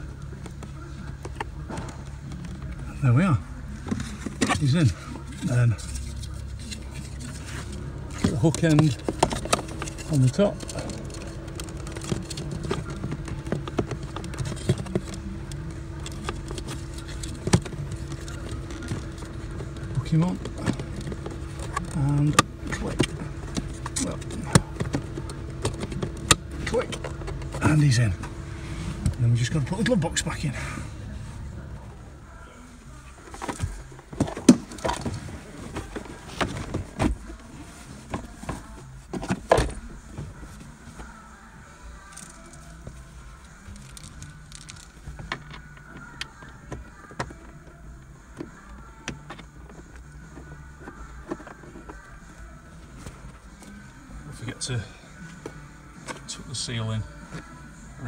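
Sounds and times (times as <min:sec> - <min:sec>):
low workshop hum: 0:00.0 - 0:58.0.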